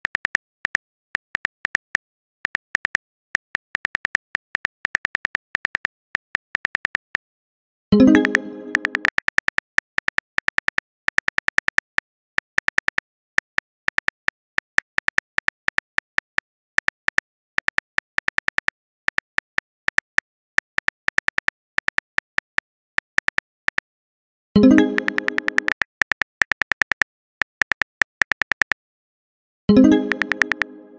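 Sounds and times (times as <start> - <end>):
phone keyboard typing clicks: 0.0 - 7.2, 8.0 - 23.9, 24.6 - 28.8, 29.8 - 30.8.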